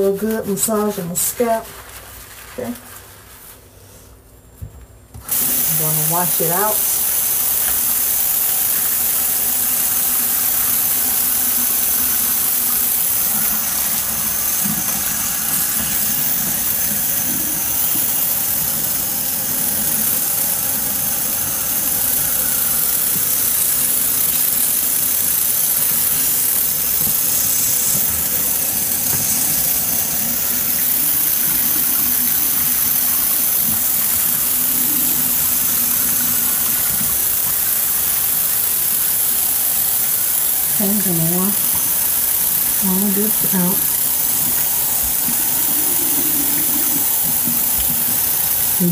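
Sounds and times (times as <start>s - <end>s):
faucet running: 5.2s - 48.9s.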